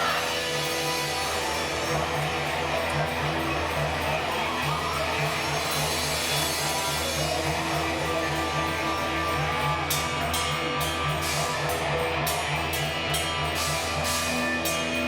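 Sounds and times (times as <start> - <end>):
drums: 0.0 - 15.0
guitar: 0.0 - 15.0.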